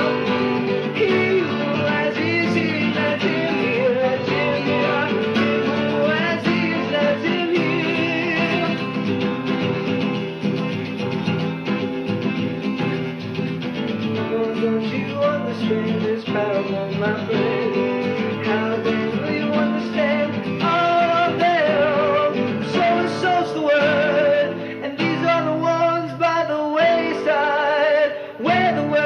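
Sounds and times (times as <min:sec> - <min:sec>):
wavering singing voice: 0:00.0 - 0:09.0, 0:14.3 - 0:29.0
guitar: 0:00.0 - 0:29.0.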